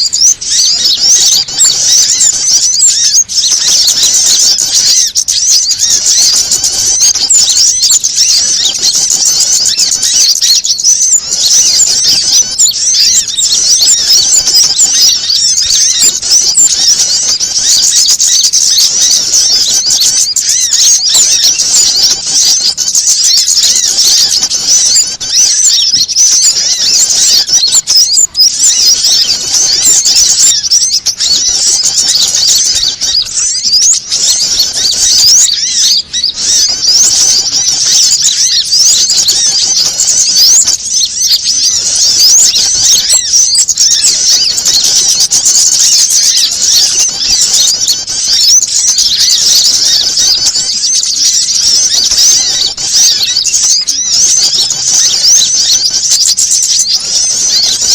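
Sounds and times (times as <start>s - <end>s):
songbirds chattering and calling: 0.0s - 57.9s.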